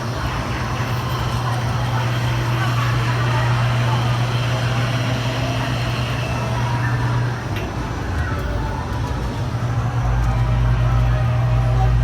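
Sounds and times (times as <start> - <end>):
vehicle hum and rumble: 0.0 - 12.0.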